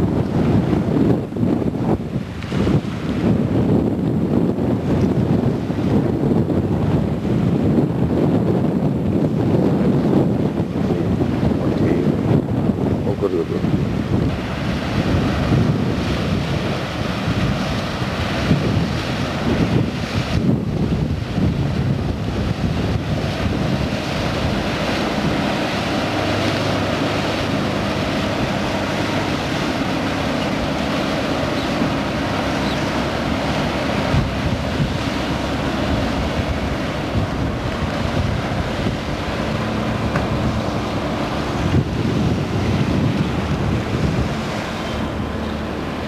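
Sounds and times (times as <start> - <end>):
motor boat hum: 0.0 - 46.0
sea wash: 0.0 - 46.0
wind buffeting microphone: 0.0 - 46.0.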